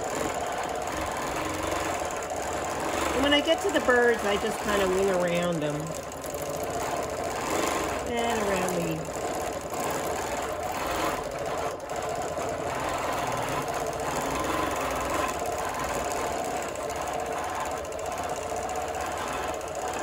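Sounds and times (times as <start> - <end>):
quilting machine stitching: 0.0 - 20.0.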